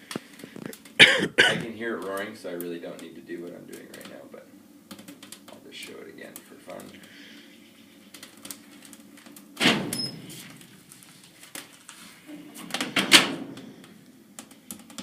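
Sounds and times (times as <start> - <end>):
fire crackles: 0.0 - 15.0
fire roaring in firebox: 0.0 - 15.0
fire rushing: 0.0 - 15.0.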